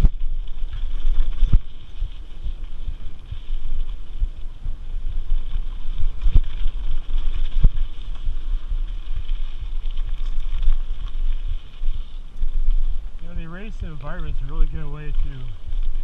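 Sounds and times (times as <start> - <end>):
bike rumbling on dirt: 0.0 - 16.0
wind buffeting microphone: 0.0 - 16.0.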